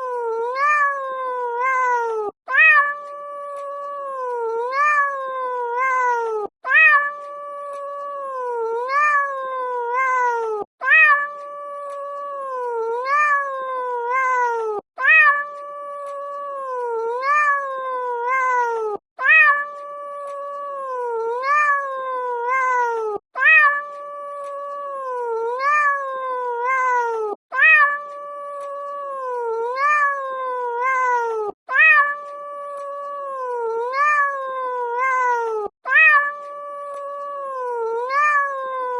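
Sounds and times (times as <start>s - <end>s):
kitten meowing: 0.0s - 38.9s.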